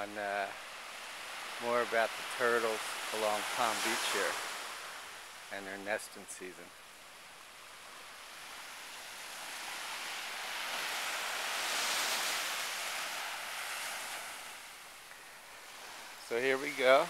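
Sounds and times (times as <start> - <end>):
small waves washing up a beach: 0.0 - 17.0.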